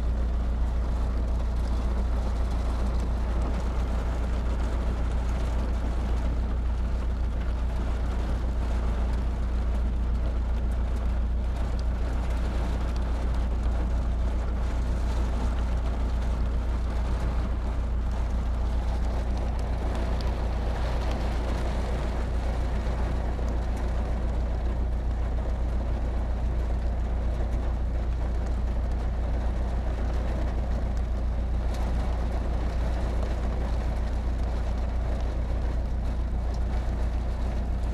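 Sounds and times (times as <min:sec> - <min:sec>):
deep rumble: 0:00.0 - 0:37.9
heavy rain pouring: 0:00.0 - 0:37.9.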